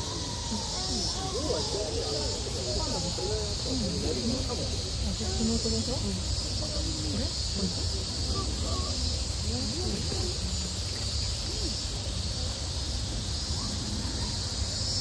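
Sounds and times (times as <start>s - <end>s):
distant crowd murmuring: 0.0s - 15.0s.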